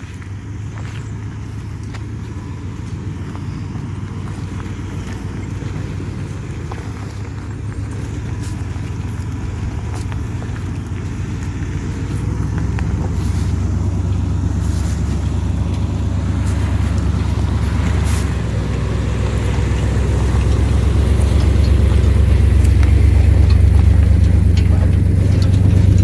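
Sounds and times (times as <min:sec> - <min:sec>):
truck engine and road rumble: 0:00.0 - 0:26.0
light knocks and rattles: 0:04.1 - 0:26.0.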